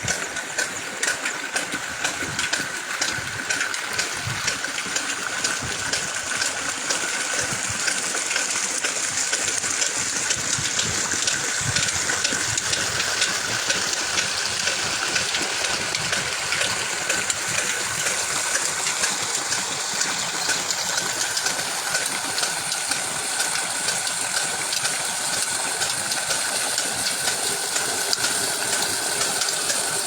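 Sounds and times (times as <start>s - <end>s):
water gushing: 0.0s - 30.0s
water pump engine running: 0.0s - 30.0s.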